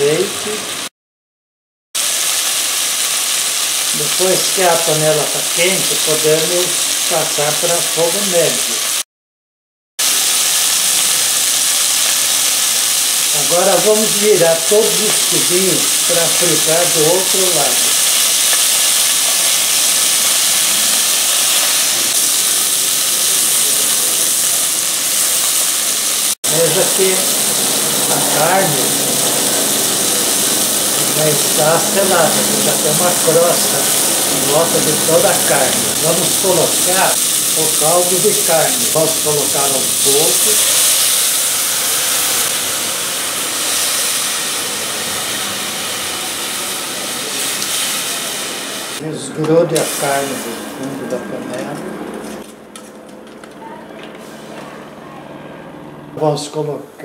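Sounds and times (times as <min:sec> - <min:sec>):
meat sizzling in hot oil: 0:02.0 - 0:09.1, 0:10.0 - 0:49.0, 0:49.8 - 0:50.8.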